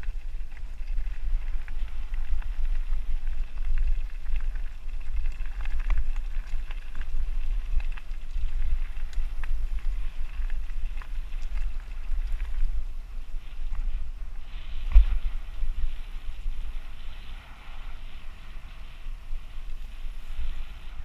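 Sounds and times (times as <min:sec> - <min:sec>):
bike tyres on dirt: 0:00.0 - 0:21.0
wind rumble on microphone: 0:00.0 - 0:21.0.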